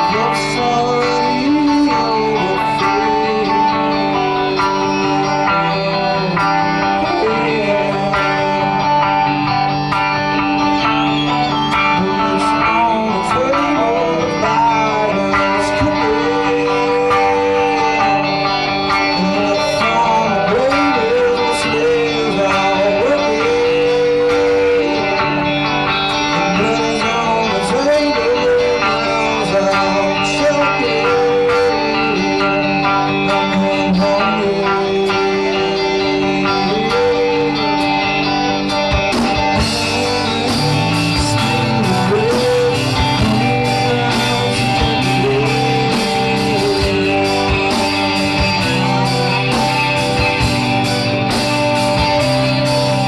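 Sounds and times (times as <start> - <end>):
electric guitar lead with bent notes: 0.0 - 53.0
rock band playing live: 0.0 - 53.0.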